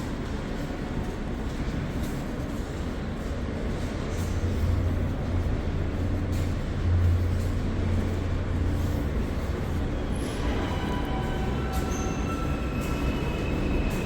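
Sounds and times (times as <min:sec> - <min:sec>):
subway train rumbling: 0:00.0 - 0:14.0
wheel and track noise: 0:00.0 - 0:14.0.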